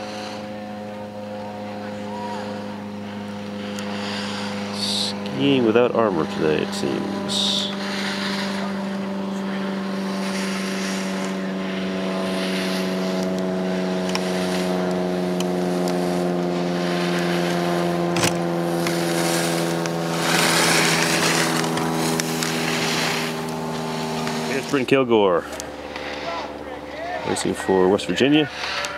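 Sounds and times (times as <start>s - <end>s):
mechanical motor hum: 0.0s - 28.9s
ski edges scraping snow: 3.6s - 28.9s.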